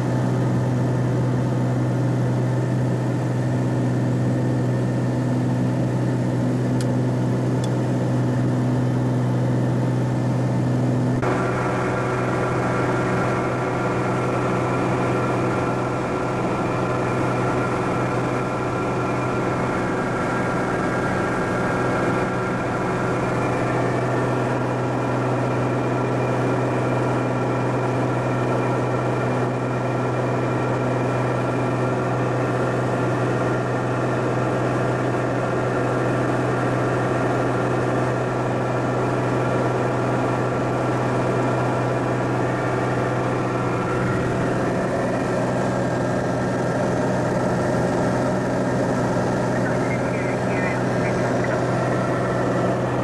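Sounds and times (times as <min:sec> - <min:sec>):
aircraft engine and propeller droning: 0:00.0 - 0:53.0.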